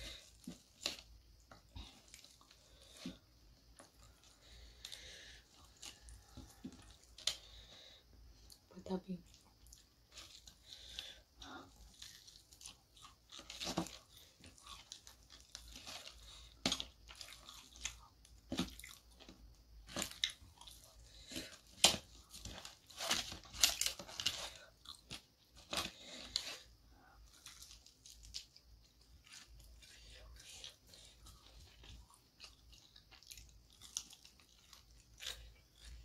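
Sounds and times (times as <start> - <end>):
chewing crispy fried chicken: 0.0 - 36.0.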